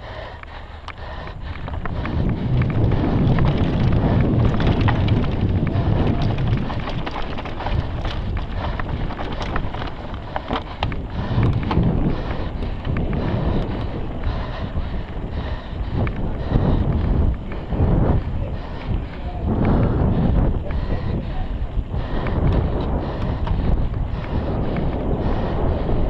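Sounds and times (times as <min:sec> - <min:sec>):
wind rushing over microphone: 0:00.0 - 0:26.0
bike rattling over stones: 0:01.3 - 0:26.0.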